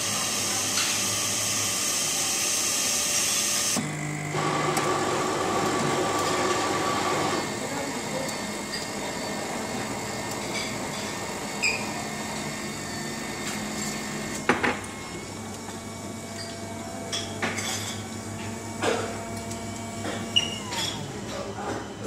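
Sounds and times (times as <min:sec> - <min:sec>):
coffee machine humming: 0:00.0 - 0:22.0.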